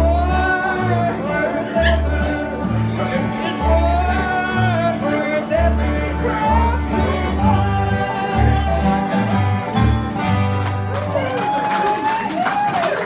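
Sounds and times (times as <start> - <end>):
low bass notes: 0.0 - 11.3
plucked string instrument: 0.0 - 11.3
strummed acoustic guitar: 0.0 - 11.4.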